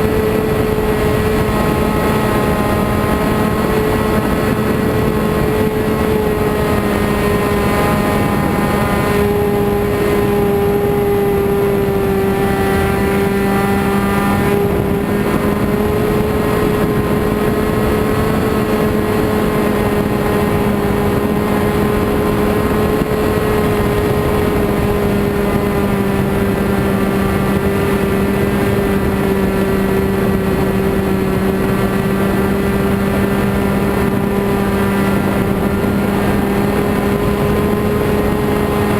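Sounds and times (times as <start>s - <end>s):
model airplane engine buzzing: 0.0s - 38.9s.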